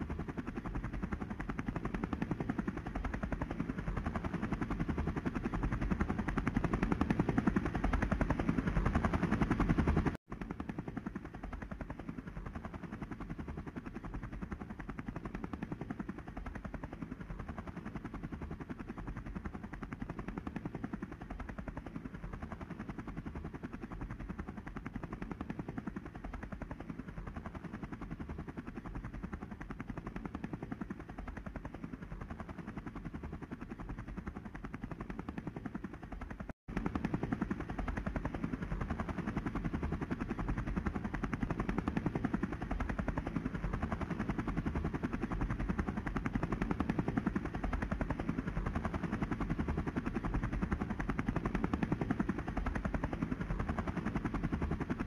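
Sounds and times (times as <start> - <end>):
helicopter rotor chopping: 0.0 - 55.0.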